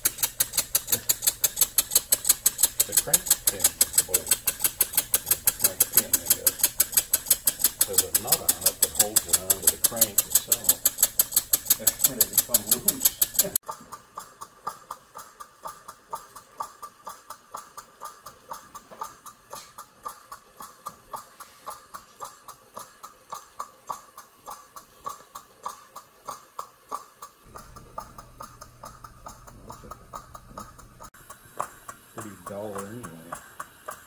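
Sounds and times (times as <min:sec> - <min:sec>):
steam engine beating: 0:00.0 - 0:34.0.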